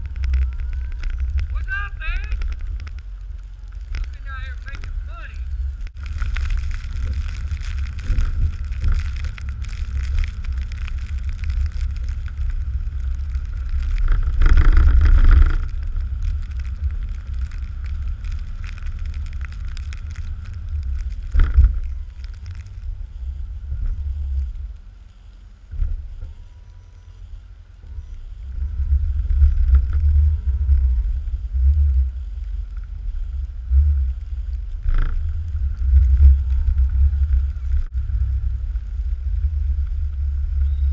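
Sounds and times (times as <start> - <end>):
truck engine rumble: 0.0 - 40.9
wind on microphone: 0.0 - 40.9.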